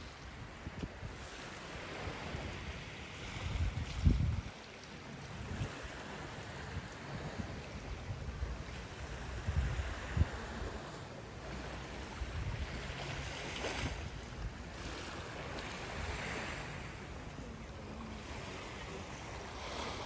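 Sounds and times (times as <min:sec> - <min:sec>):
waves washing against rocks: 0:00.0 - 0:20.0
wind rumbling on microphone: 0:00.0 - 0:20.0.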